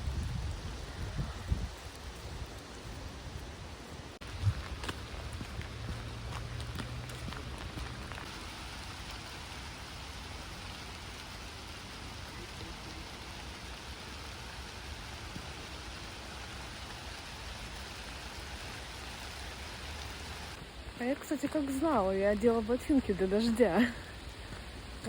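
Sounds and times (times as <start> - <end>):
rain falling steadily: 0.0 - 25.0.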